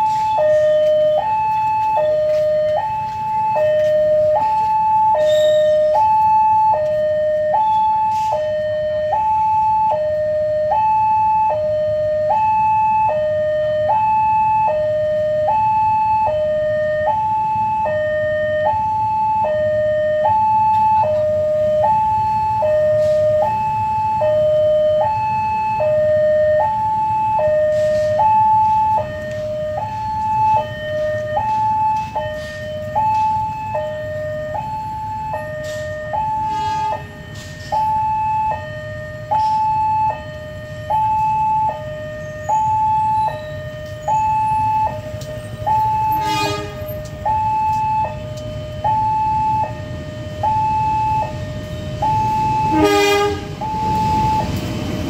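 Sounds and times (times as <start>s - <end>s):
two-tone crossing alarm: 0.0s - 55.0s.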